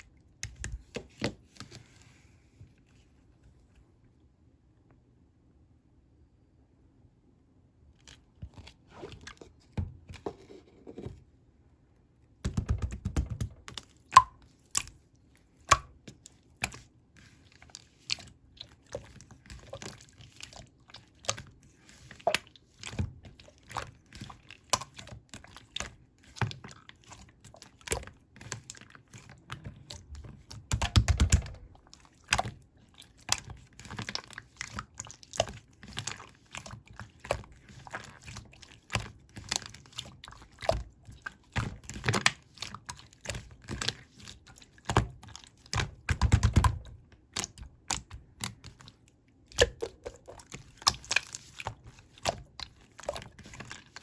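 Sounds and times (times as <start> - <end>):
slime squishing with sticky clicks: 0.0 - 1.8, 12.3 - 54.0.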